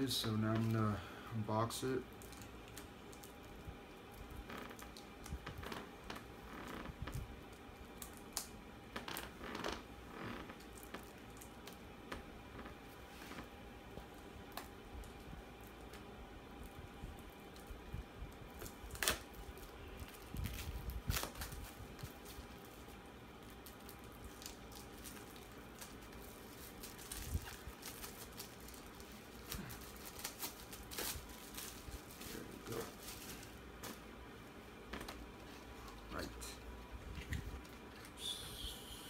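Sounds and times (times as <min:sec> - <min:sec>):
plastic wrap crinkling and tearing: 0:01.7 - 0:13.5, 0:14.1 - 0:34.0.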